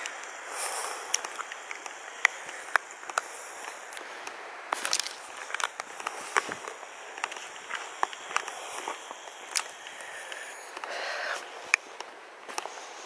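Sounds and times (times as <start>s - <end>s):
faint steady hiss: 0.0s - 13.0s
footsteps on stony path: 0.0s - 13.0s.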